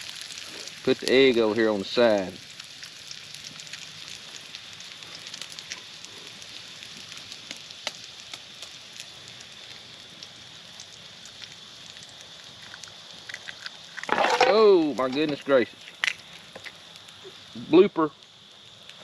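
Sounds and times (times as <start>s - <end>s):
bacon sizzling: 0.0s - 19.0s
crackles and pops: 0.0s - 19.0s.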